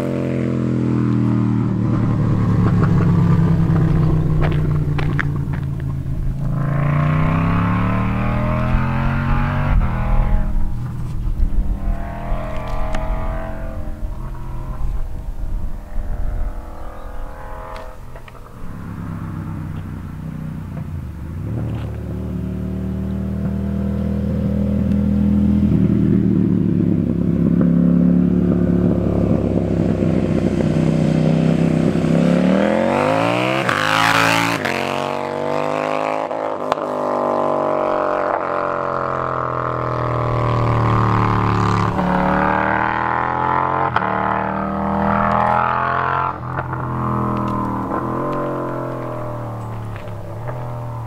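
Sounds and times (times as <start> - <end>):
motorcycle revving past: 0.0 - 51.0.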